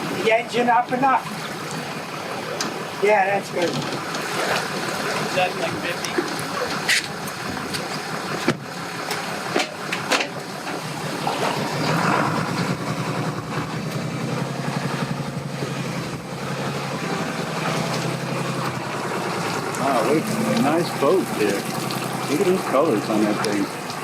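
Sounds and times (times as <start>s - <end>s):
engine running at low revs: 3.9s - 24.0s.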